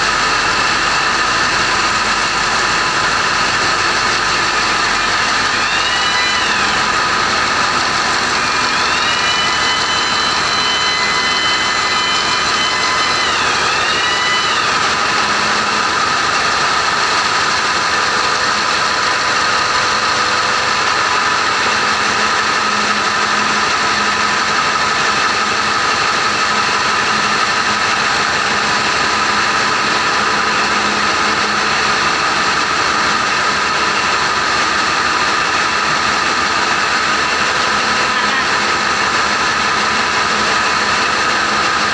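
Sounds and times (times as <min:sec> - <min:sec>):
diesel engines droning: 0:00.0 - 0:41.9
high-pitched whine: 0:00.0 - 0:41.9.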